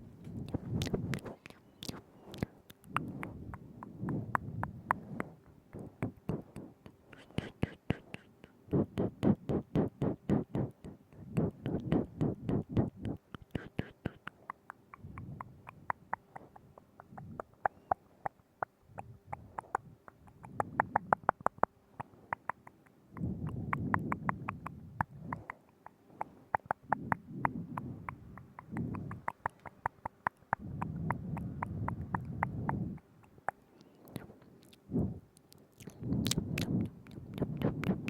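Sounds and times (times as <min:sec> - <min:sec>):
wet tongue and lip clicks: 0:00.2 - 0:38.0.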